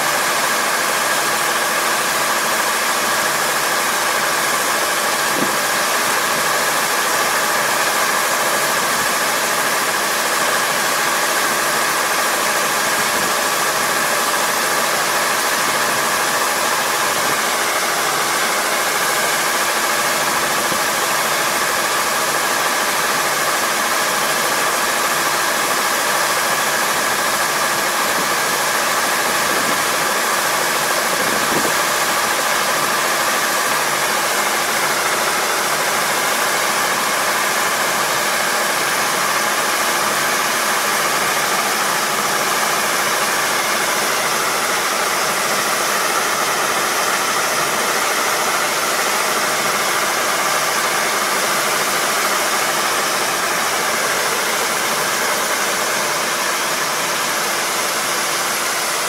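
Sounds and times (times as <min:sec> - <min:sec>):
combine harvester engine drone: 0:00.0 - 0:59.0
steady machine whine: 0:00.0 - 0:59.0.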